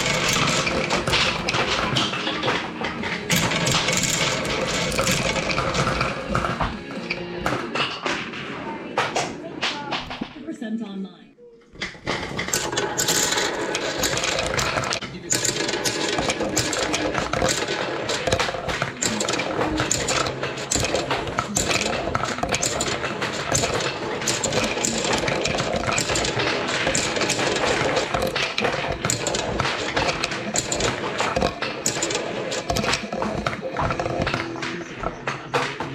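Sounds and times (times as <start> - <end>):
marbles clattering through marble run: 0.0 - 10.3, 11.7 - 35.9.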